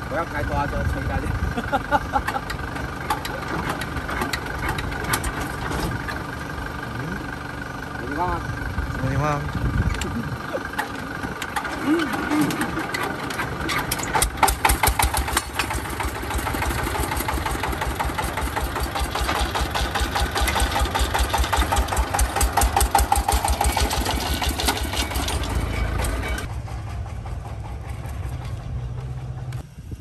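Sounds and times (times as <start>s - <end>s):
diesel engine chugging: 0.0s - 30.0s.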